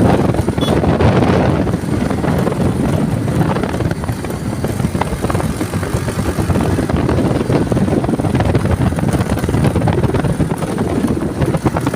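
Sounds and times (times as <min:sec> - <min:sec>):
vehicle engine and road rumble: 0:00.0 - 0:11.9
rough fluttering noise: 0:01.2 - 0:11.9.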